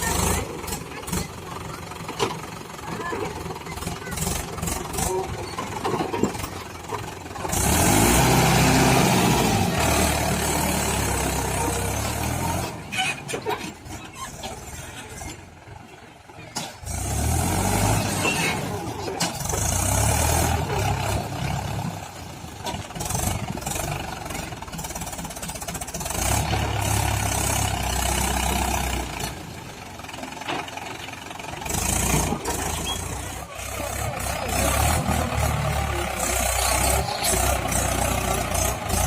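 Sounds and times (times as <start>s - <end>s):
tractor diesel engine under load: 0.0s - 39.0s.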